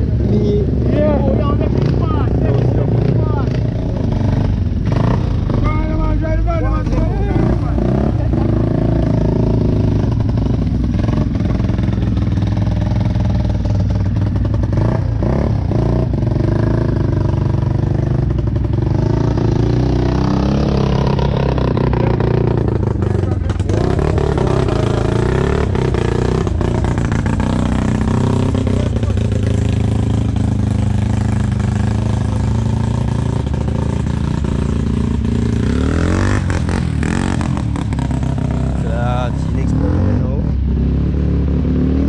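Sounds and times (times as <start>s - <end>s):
vehicle engine running: 0.0s - 41.9s.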